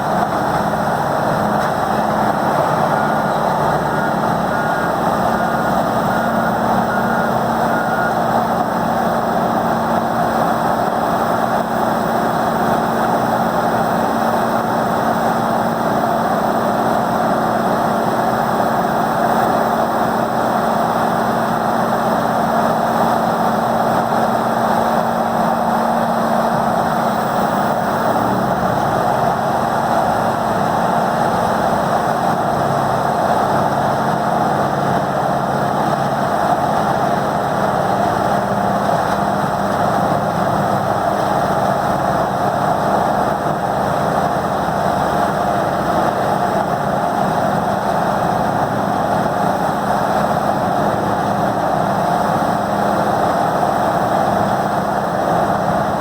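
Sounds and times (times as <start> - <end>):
diesel grinder running: 0.0 - 56.0.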